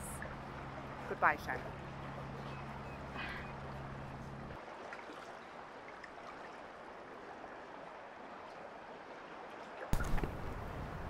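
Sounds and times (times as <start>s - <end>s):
water lapping against dock: 0.0s - 11.0s.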